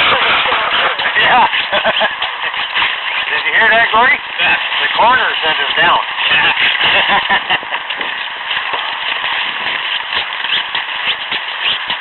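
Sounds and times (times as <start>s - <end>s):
iceboat runners crackling on ice: 0.0s - 12.0s.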